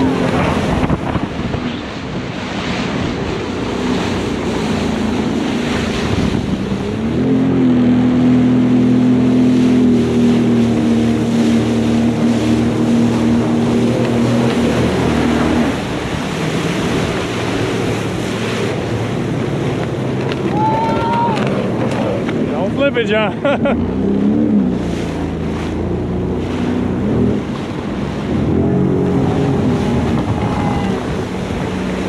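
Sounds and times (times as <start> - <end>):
jet ski engine running: 0.0 - 32.0
wind on microphone: 0.0 - 32.0.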